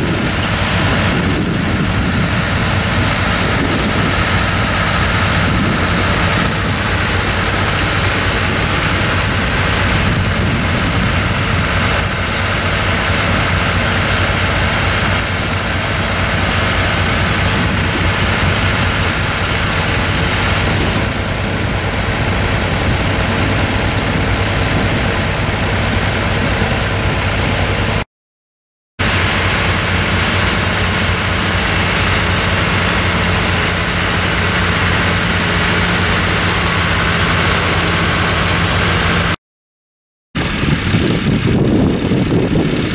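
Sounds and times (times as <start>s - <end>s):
tractor engine running: 0.0s - 28.0s, 29.0s - 39.4s, 40.4s - 42.9s.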